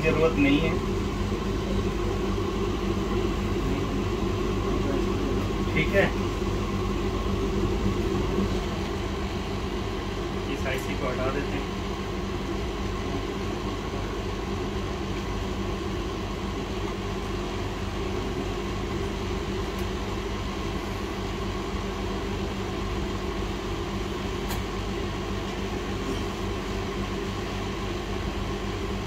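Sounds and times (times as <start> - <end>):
hot air station blowing: 0.0 - 29.0.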